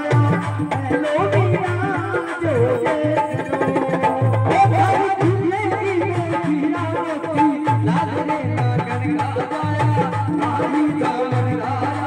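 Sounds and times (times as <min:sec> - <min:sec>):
hand drum beating rhythm: 0:00.0 - 0:12.0.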